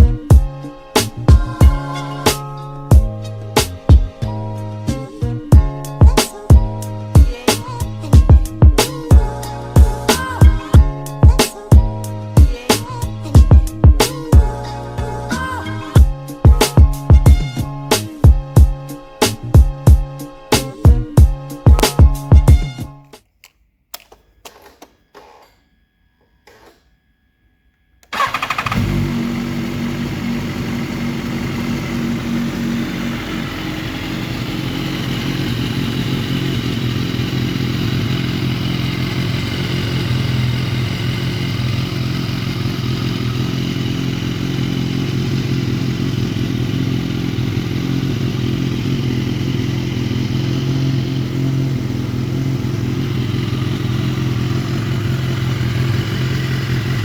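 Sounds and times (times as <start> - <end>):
motorcycle engine starting and idling: 0.0 - 17.4, 28.0 - 57.0.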